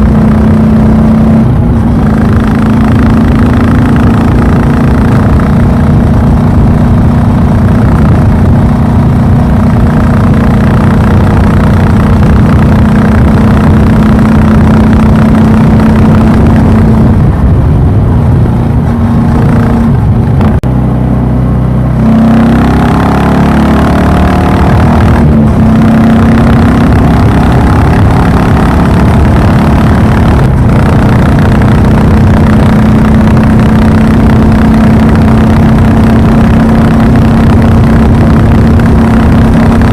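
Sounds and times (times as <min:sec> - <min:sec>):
single-cylinder motorcycle engine running: 0:00.0 - 0:39.9.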